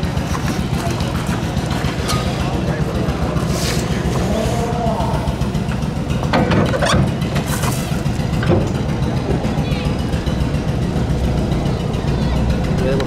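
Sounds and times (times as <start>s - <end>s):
faint voices: 0.0s - 6.4s, 8.0s - 13.0s
low engine rumble: 0.0s - 13.0s.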